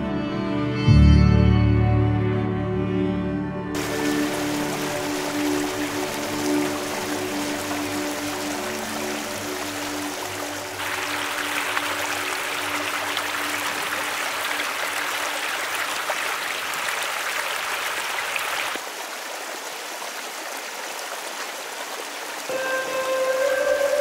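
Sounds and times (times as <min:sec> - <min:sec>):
stream rushing over rocks: 0:03.8 - 0:24.0.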